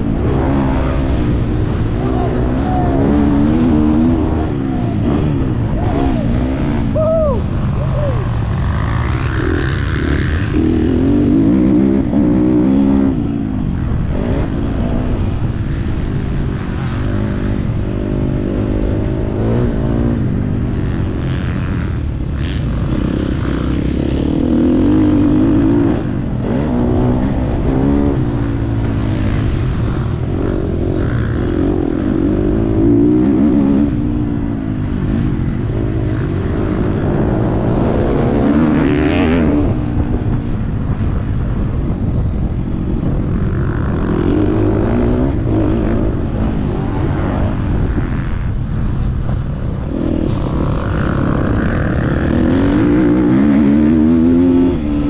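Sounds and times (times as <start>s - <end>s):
dirt bike engine revving: 0.0s - 40.7s, 49.8s - 55.0s
second dirt bike: 0.0s - 55.0s.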